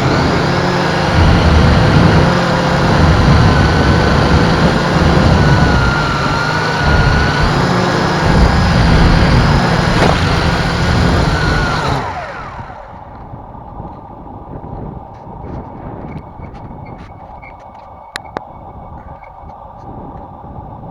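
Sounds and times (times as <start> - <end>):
drone motors whining: 0.0 - 20.9
wind buffeting microphone: 0.0 - 20.9.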